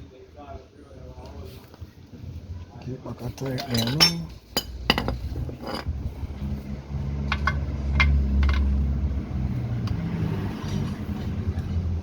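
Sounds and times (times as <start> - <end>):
vehicle engine rumble: 1.7 - 12.0.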